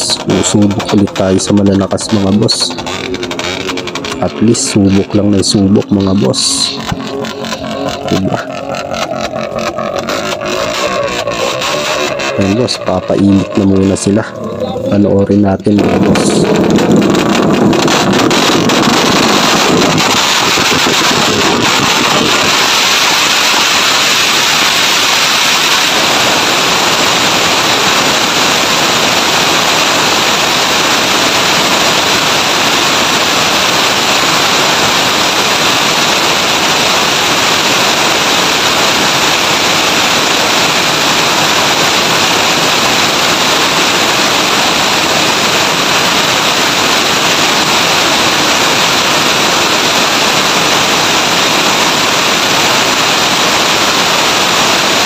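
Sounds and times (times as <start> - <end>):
motorcycles revving loudly: 0.0 - 55.0.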